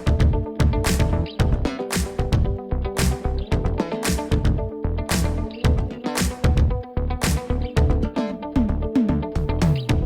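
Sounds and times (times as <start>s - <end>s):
music with drums and bass: 0.0s - 10.0s.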